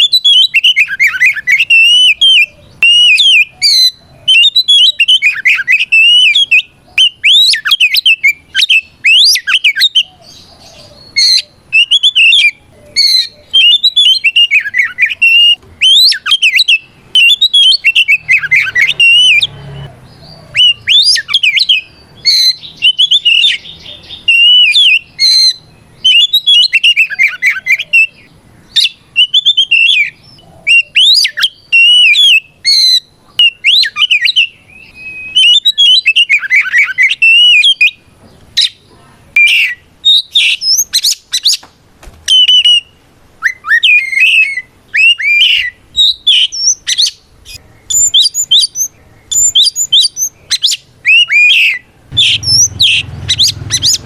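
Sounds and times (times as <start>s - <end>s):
magpie-robin singing: 0.0s - 41.7s, 42.3s - 54.0s.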